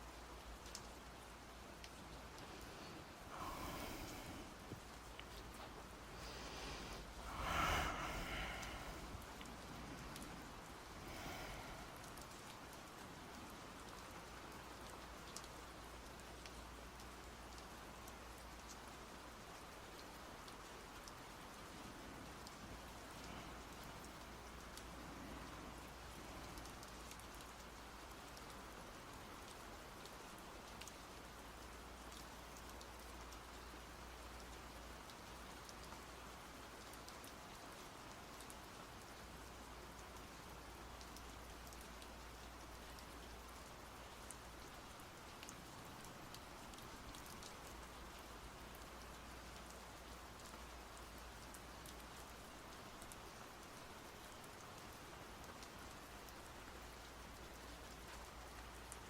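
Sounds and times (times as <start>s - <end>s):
faint rain pattering: 0.0s - 59.0s.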